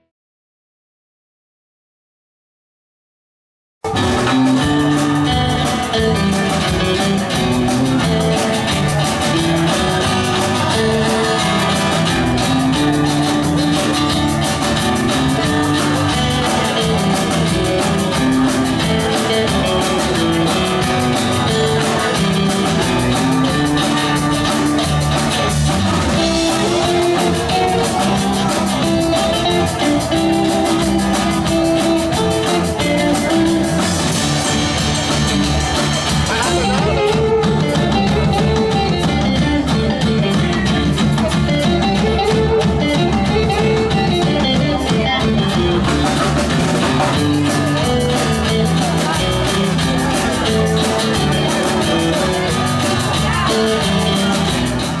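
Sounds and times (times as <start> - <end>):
drum kit: 3.8 - 55.0
electric guitar: 3.8 - 55.0.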